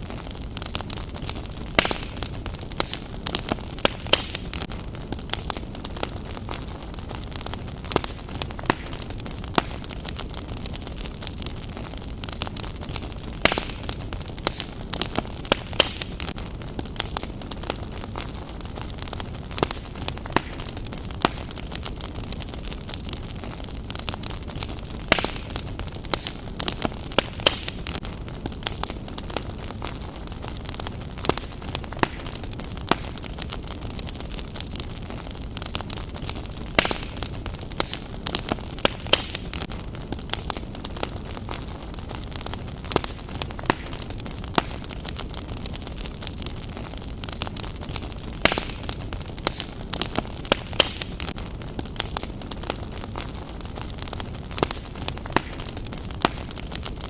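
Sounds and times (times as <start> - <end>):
fire popping: 0.0 - 57.0
logs crackling: 0.0 - 57.0
low rumble of flame: 0.0 - 57.0.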